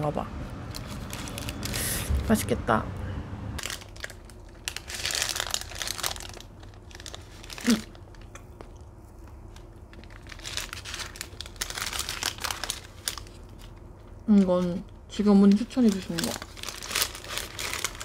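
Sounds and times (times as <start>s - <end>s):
food wrapping crinkling: 0.6s - 2.2s, 3.6s - 18.0s.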